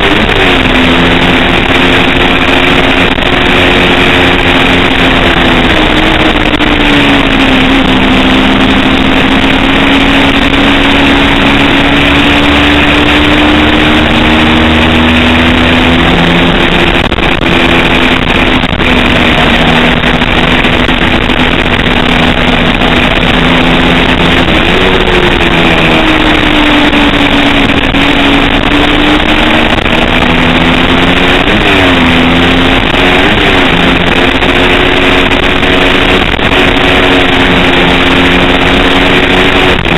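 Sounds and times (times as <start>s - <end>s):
motorcycle engine running hard: 0.0s - 39.9s
rushing noise: 0.0s - 39.9s.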